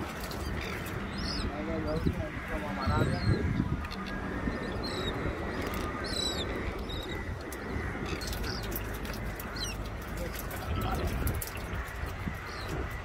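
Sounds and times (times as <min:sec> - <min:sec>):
rushing water: 0:00.0 - 0:13.0
wind: 0:00.0 - 0:13.0.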